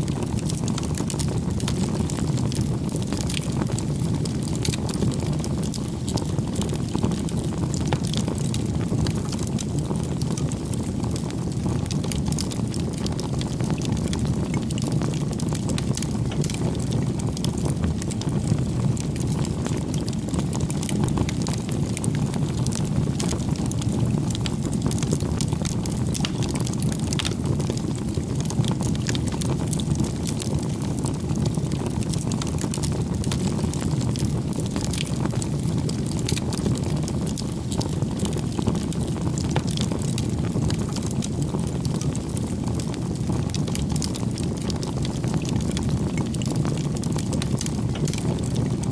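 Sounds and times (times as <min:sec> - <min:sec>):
wood fire crackling: 0:00.1 - 0:48.9.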